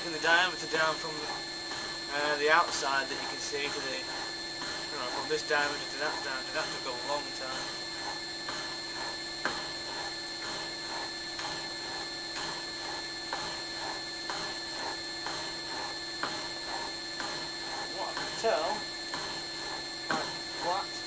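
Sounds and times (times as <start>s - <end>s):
milling cutter stroking: 0.0s - 21.0s
motor whine: 0.0s - 21.0s.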